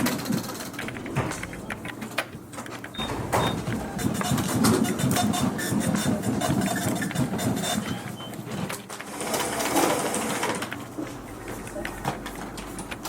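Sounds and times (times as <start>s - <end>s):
office printer running: 0.0s - 13.0s.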